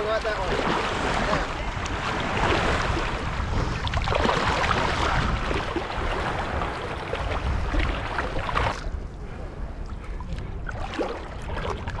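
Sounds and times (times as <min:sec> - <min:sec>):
shallow surf splashing: 0:00.0 - 0:12.0
wind rumble on microphone: 0:00.0 - 0:12.0.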